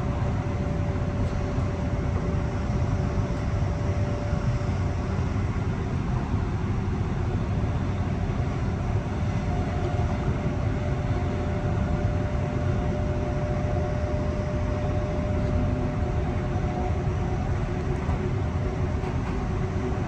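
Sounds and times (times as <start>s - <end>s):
electric train rumbling: 0.0s - 20.0s.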